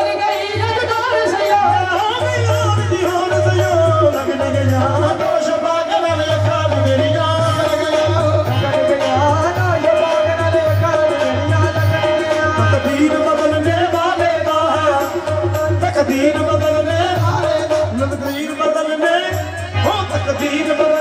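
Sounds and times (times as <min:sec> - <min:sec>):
tabla beat: 0:00.0 - 0:21.0.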